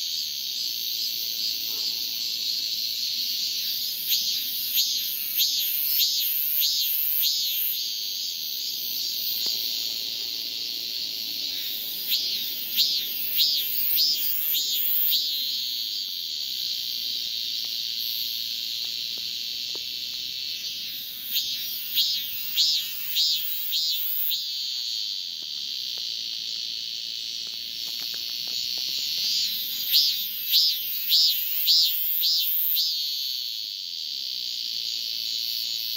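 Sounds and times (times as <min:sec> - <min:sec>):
cicada singing: 0:00.0 - 0:35.9.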